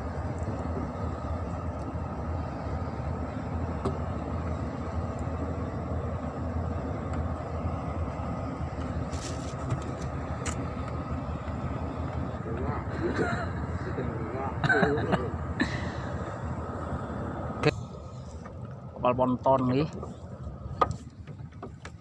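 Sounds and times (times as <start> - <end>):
low wind rumble: 0.0 - 22.0.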